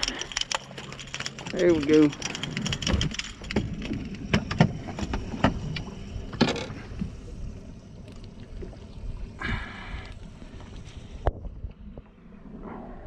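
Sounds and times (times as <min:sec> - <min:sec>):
wind and water noise: 0:00.0 - 0:13.0.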